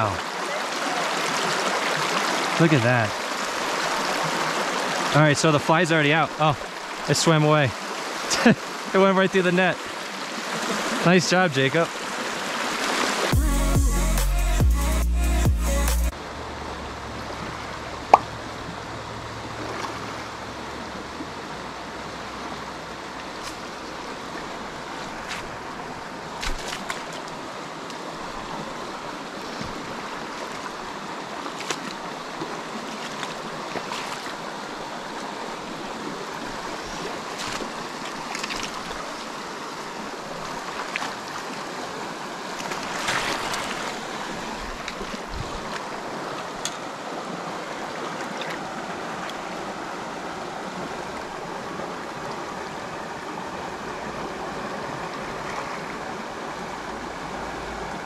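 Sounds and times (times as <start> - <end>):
creek rushing over stones: 0.0 - 13.4, 16.1 - 58.0.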